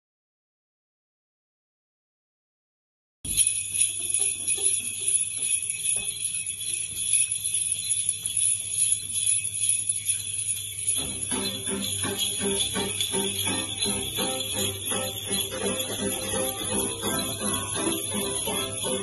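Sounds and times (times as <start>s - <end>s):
handheld sleigh bells shaking: 3.3s - 19.0s.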